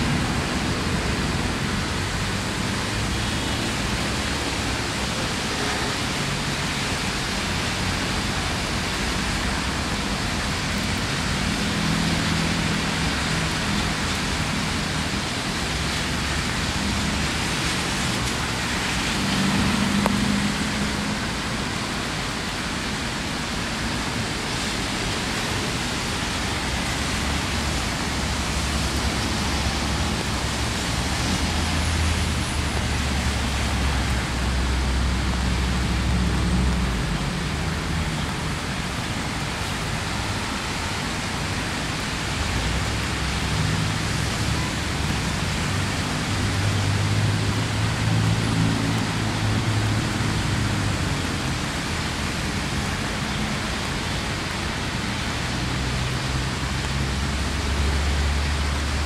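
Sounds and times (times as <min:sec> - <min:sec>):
low hum of city traffic: 0:00.0 - 0:59.0
rain on wet paving: 0:00.0 - 0:59.0.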